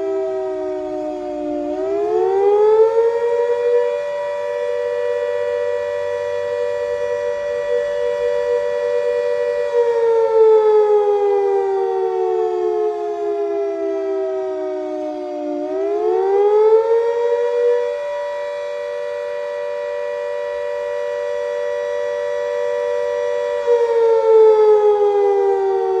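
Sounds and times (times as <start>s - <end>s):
fire siren wailing: 0.0s - 26.0s.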